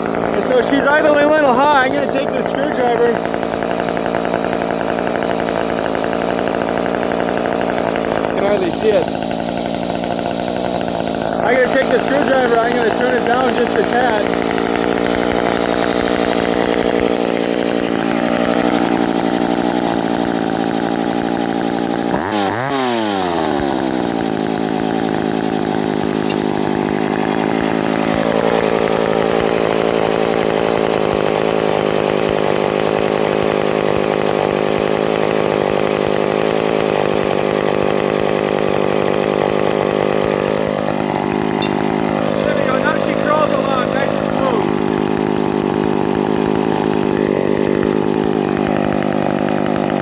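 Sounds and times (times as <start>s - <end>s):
chainsaw engine idling: 0.0s - 50.0s.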